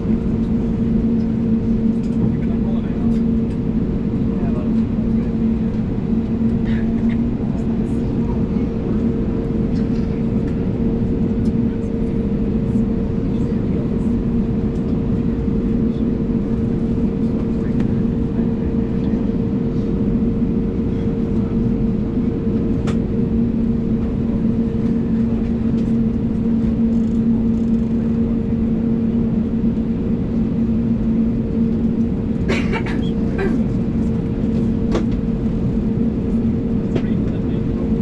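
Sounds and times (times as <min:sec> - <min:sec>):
airliner cabin hum with idling engines: 0:00.0 - 0:38.0.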